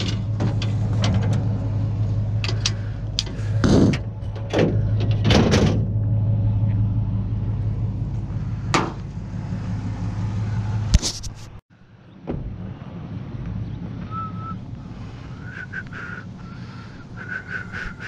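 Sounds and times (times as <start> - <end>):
quiet steady rumble: 0.0 - 18.0
vehicle engine humming: 0.0 - 18.0.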